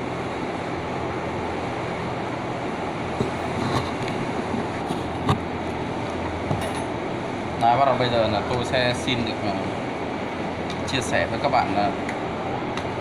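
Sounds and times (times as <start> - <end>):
background machinery hum and hiss: 0.0 - 13.0.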